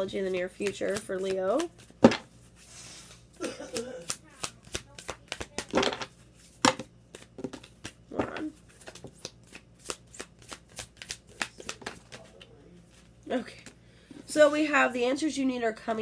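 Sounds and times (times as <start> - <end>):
cards being shuffled: 0.2 - 13.1.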